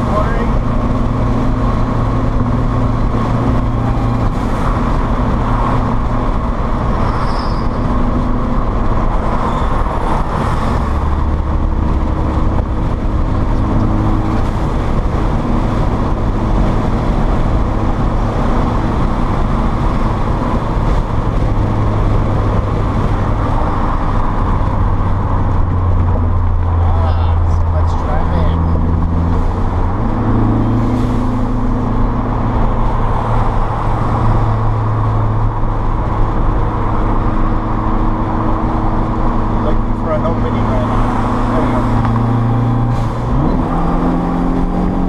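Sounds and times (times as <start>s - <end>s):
car engine drone: 0.0s - 45.0s.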